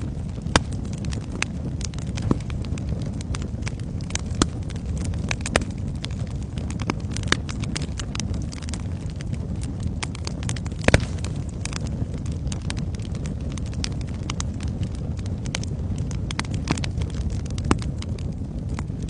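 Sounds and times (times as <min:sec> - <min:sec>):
burning wood popping: 0:00.0 - 0:19.0
fire crackling: 0:00.0 - 0:19.0.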